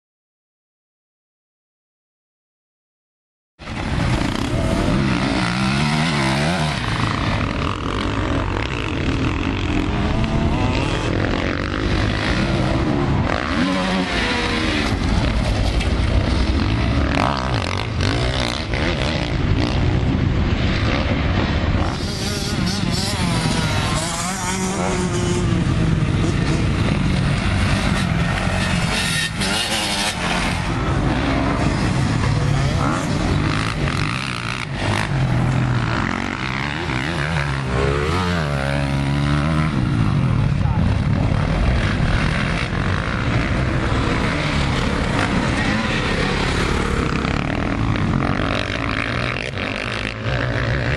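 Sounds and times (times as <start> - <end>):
dirt bike engines revving: 3.6 - 50.9.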